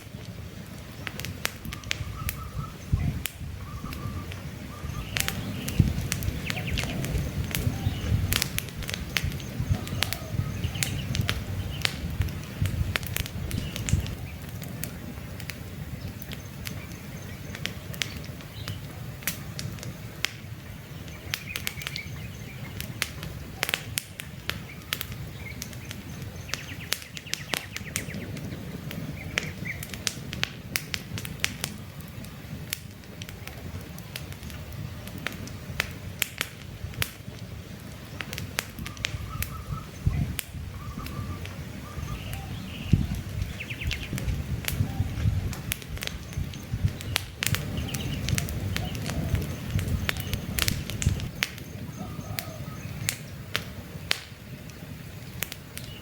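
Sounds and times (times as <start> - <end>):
campfire crackling and popping: 0.0 - 56.0
birds chirping: 0.9 - 30.1, 37.4 - 56.0.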